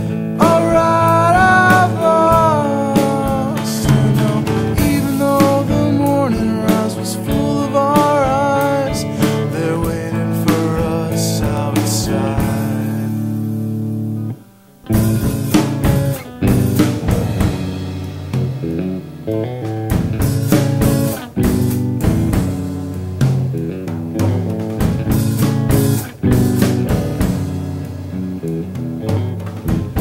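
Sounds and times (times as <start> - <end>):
rock drums: 0.0 - 30.0
rock guitars: 0.0 - 30.0.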